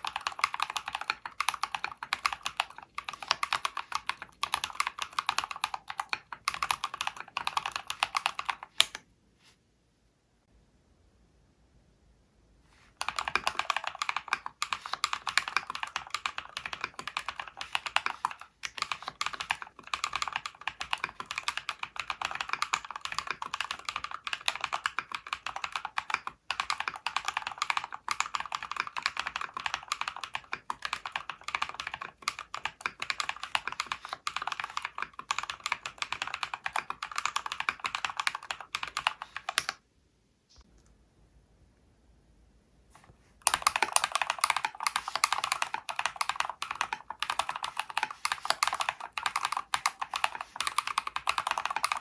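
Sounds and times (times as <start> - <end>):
typing on mechanical keyboard: 0.0 - 9.0, 13.0 - 39.8, 43.4 - 52.0.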